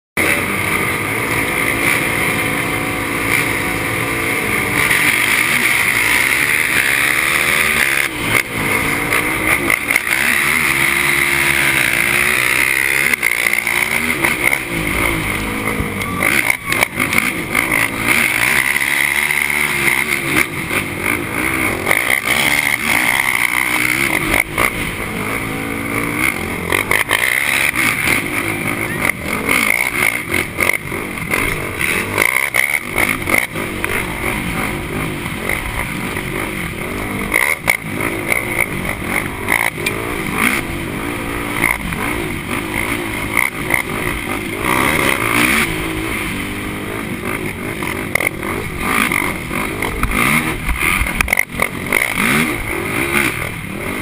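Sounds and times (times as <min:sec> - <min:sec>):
quad engine revving: 0:00.2 - 0:54.0
wind and dirt noise: 0:00.2 - 0:54.0.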